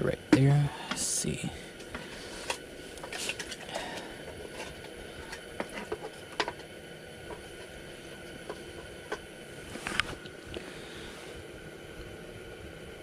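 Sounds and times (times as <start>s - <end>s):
propane heater hissing: 0.0s - 13.0s.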